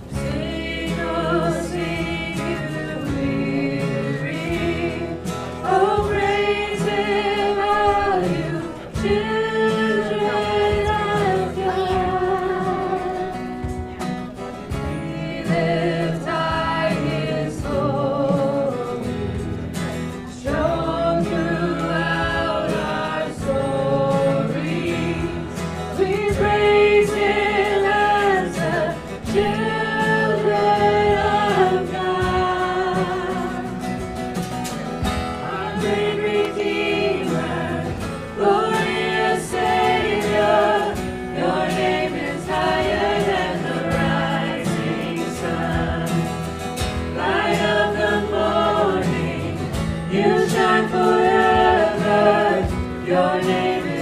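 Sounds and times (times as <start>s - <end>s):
acoustic guitar: 0.0s - 54.0s
voices singing together: 0.0s - 54.0s.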